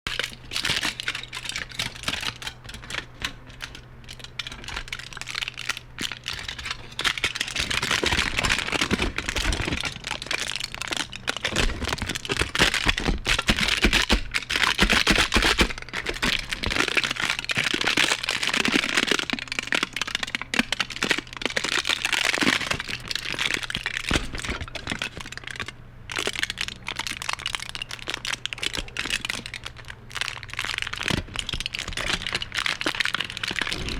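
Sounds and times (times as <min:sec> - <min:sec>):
aluminum foil crumpling: 0:00.1 - 0:33.9.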